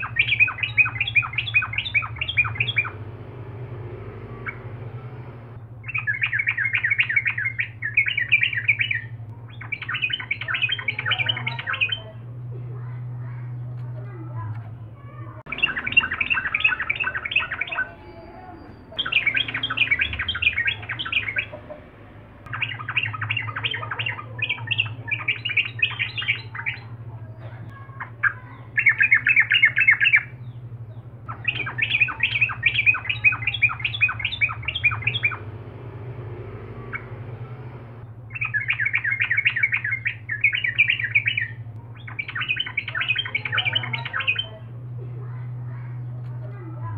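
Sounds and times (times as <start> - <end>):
bird singing chattering phrases: 0.0 - 46.9
steady low hum: 0.0 - 46.9.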